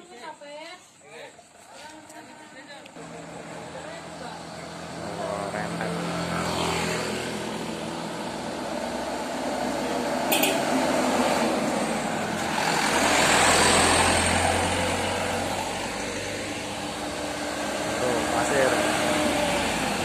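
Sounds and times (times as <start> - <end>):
truck driving past: 3.0 - 20.0.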